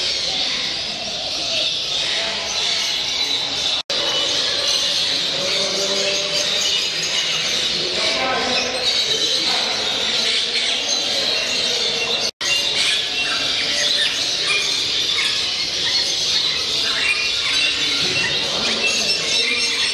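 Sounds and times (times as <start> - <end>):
caged birds chirping and squawking: 0.0 - 19.9.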